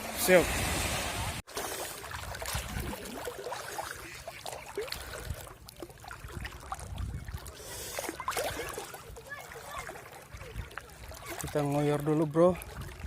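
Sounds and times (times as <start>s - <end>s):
seawater sloshing and trickling: 0.0s - 13.0s.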